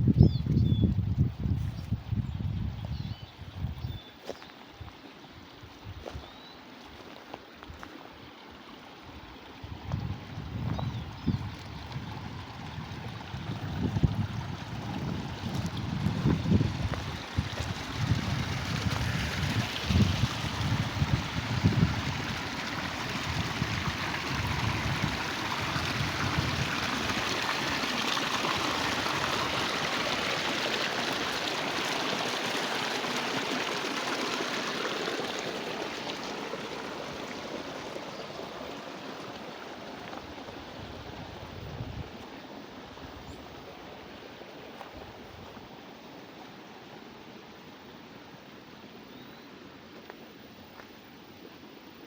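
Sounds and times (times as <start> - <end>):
water rushing along channel: 6.7 - 49.0.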